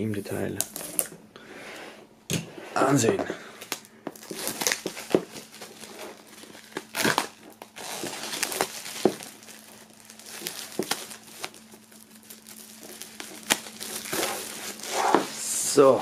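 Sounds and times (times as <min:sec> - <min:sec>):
plastic wrap crinkling: 0:03.0 - 0:16.0.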